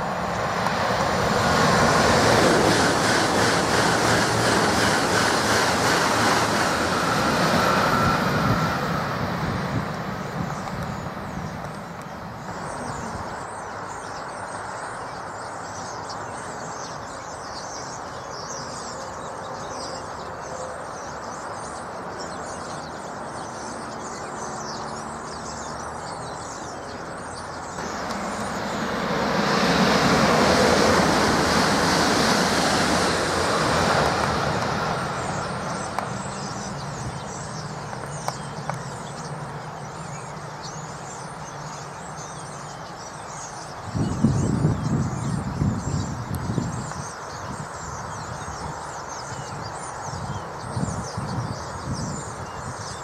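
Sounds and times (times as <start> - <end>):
electric train rushing past: 0.0 - 15.7, 21.4 - 49.0
aircraft rumbling overhead: 0.0 - 53.0.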